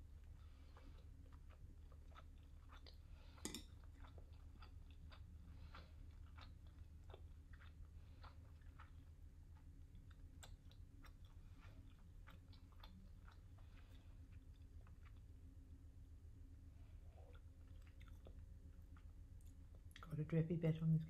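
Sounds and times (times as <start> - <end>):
chewing with mouth clicks: 0.0 - 15.6, 16.8 - 20.1.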